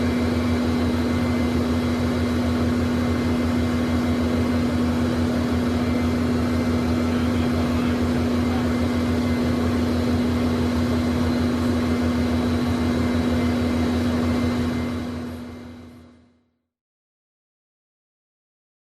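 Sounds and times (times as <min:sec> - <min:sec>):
jet engines idling from cabin: 0:00.0 - 0:16.4.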